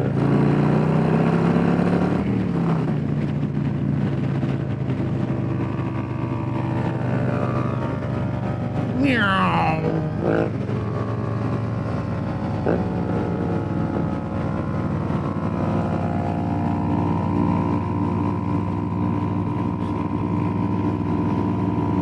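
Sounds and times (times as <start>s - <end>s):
motorcycle engines cruising: 0.0s - 22.0s.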